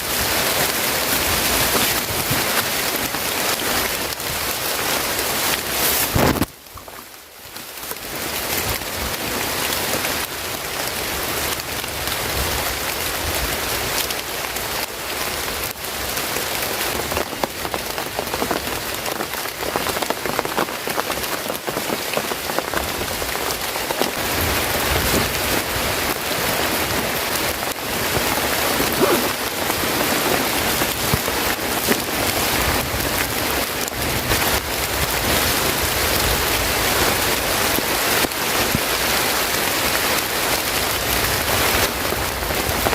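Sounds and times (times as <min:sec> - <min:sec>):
rain falling steadily: 0:00.0 - 0:42.9.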